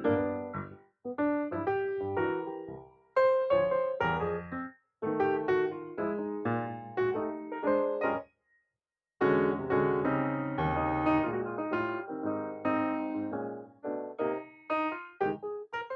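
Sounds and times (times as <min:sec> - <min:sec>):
piano music: 0:00.0 - 0:08.2, 0:09.2 - 0:15.9.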